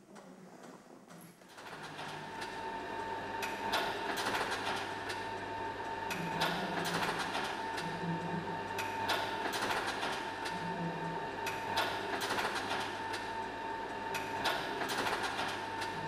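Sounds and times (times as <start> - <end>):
projector motor hum with whine: 0.0 - 16.0.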